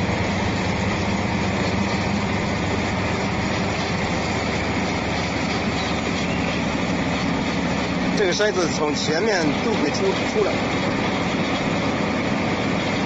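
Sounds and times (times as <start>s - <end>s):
machine humming and rattling: 0.0s - 13.0s.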